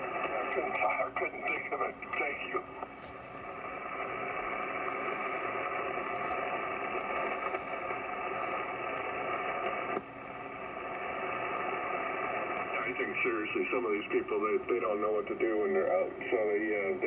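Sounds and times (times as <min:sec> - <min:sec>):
faint steady radio tones: 0:00.0 - 0:17.0
radio static hiss: 0:00.0 - 0:17.0.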